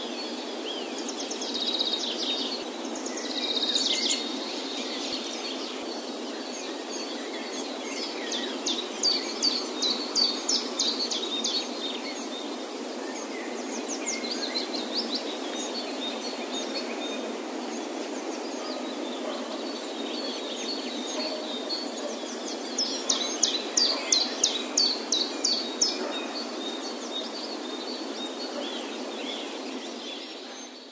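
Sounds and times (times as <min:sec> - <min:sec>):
outdoor background hiss: 0:00.0 - 0:30.9
songbird chirping: 0:00.0 - 0:30.9.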